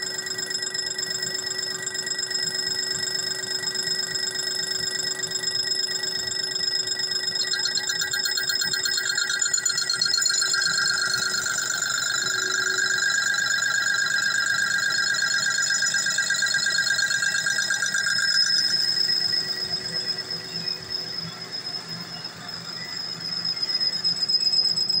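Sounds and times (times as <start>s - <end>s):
metal lathe cutting squeal: 0.0s - 25.0s.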